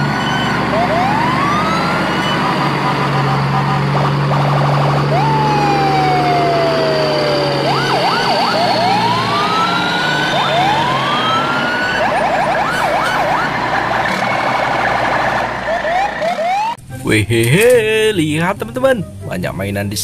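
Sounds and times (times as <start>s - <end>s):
electronic siren wailing: 0.0s - 16.8s.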